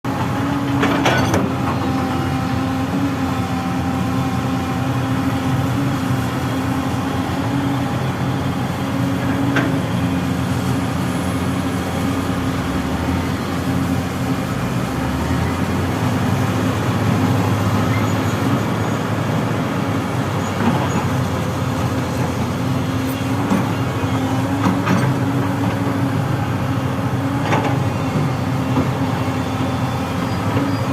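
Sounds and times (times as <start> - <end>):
excavator diesel engine: 0.0 - 30.9.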